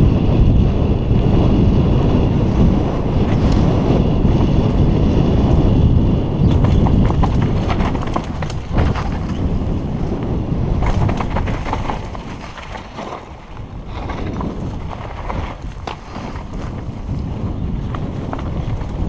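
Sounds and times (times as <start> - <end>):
tyres rumbling on dirt trail: 0.0 - 19.0
wind buffeting microphone: 0.0 - 19.0
bike chain and frame rattling: 2.8 - 19.0.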